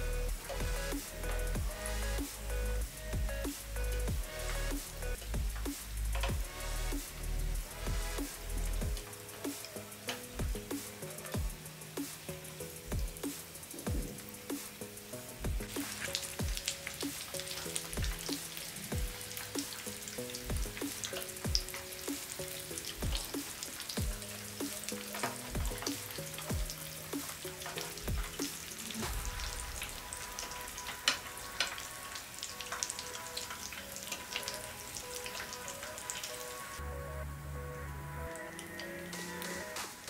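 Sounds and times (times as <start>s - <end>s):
background music with low beat: 0.0s - 40.0s
hot oil sizzling and crackling: 0.0s - 40.0s.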